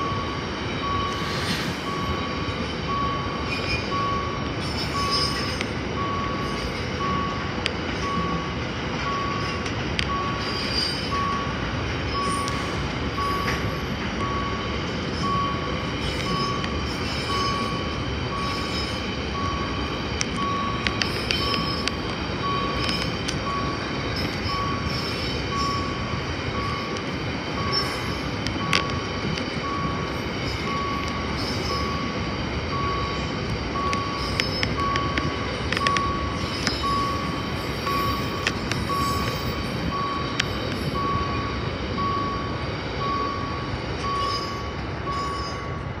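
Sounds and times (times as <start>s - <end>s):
electronic beep: 0.0s - 45.8s
train cars clanking: 0.0s - 46.0s
train wheels rumbling on rails: 0.0s - 46.0s.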